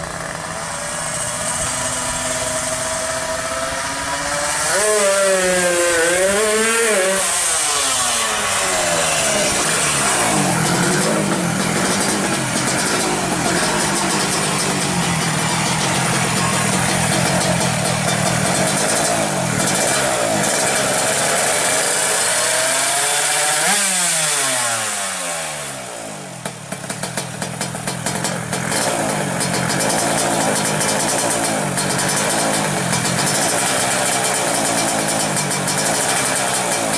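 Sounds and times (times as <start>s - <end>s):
two-stroke engine revving: 0.0s - 36.9s.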